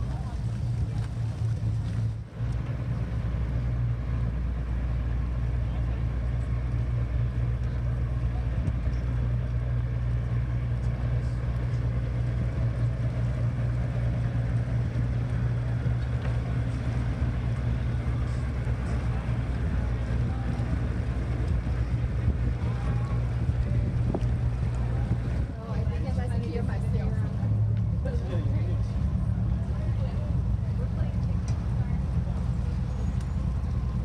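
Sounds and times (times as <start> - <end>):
boat engines droning: 0.0 - 34.0.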